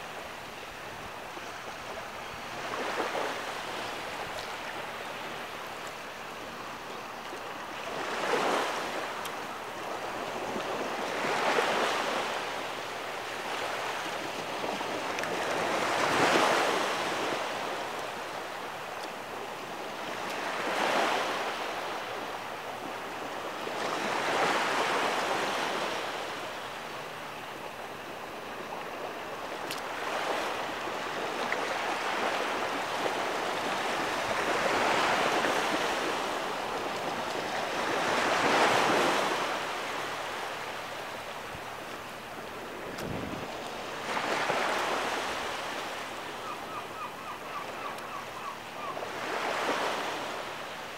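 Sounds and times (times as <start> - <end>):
surf waves washing on sand: 0.0 - 46.5.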